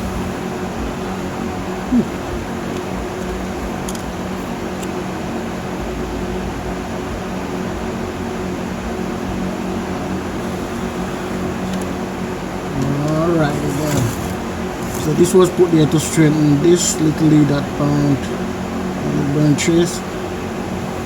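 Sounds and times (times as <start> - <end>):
electric fan whirring: 0.0 - 21.0.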